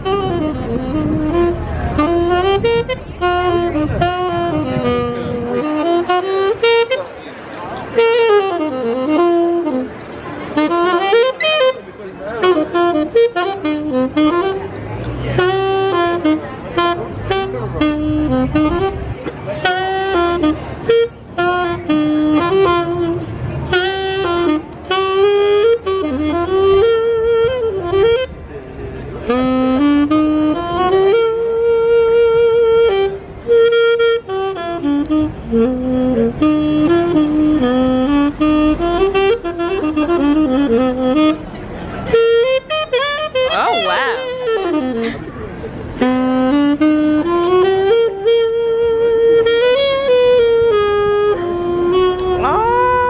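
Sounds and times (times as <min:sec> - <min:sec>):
low traffic rumble: 0:00.0 - 0:53.0
solo saxophone melody: 0:00.0 - 0:53.0.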